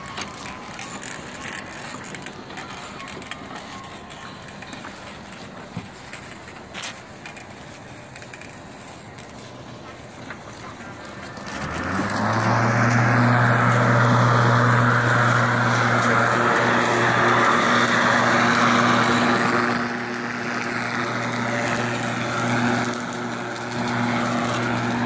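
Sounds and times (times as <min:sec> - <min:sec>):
electric mower motor humming: 0:00.0 - 0:25.0.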